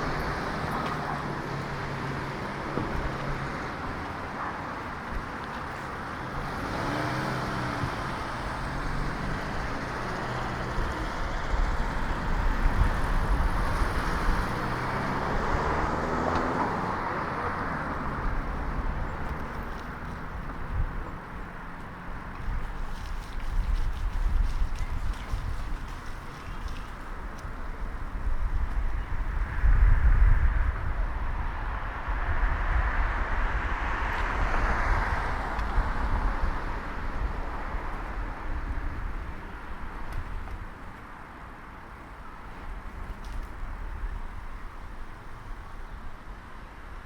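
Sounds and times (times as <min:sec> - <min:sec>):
cars passing: 0:00.0 - 0:47.0
road noise: 0:00.0 - 0:47.0.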